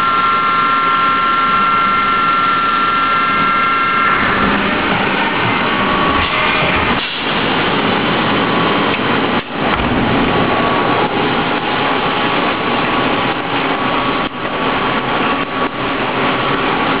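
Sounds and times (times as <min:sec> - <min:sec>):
milling machine cutting steel: 0:00.0 - 0:17.0.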